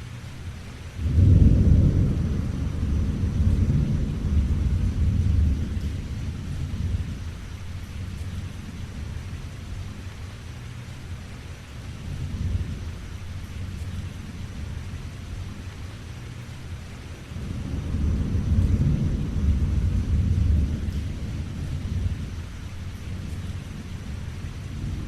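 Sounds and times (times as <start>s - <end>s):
steady rain: 0.0s - 25.0s
thunder rumbling: 1.0s - 10.2s, 11.9s - 15.9s, 17.3s - 25.0s.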